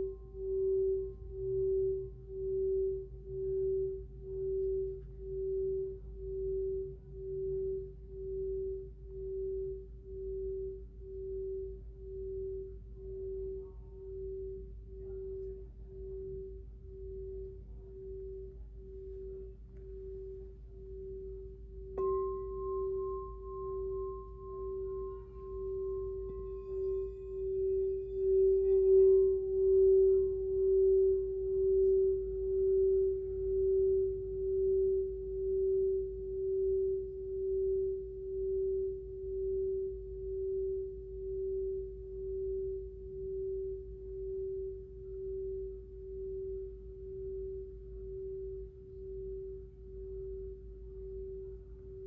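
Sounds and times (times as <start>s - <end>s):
singing bowl ringing: 0.0s - 52.0s.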